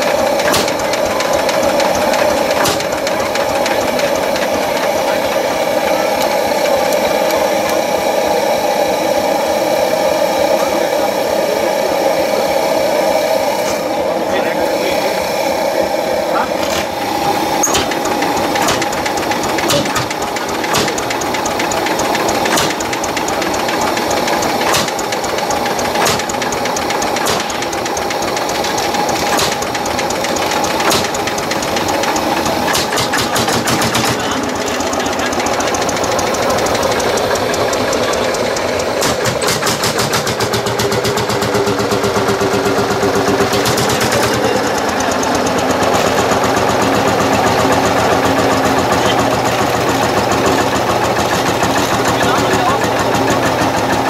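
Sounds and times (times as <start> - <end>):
tractor engine knocking: 0.0 - 54.0.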